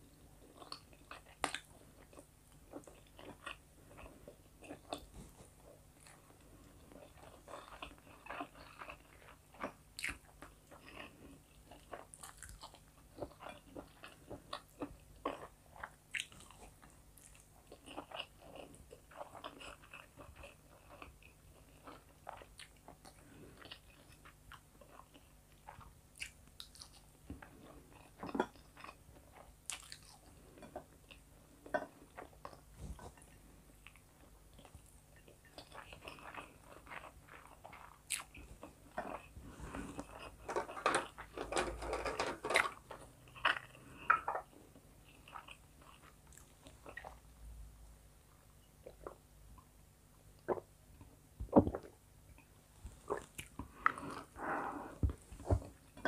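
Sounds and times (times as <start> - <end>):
chewing food: 0.1 - 47.3, 50.4 - 56.0.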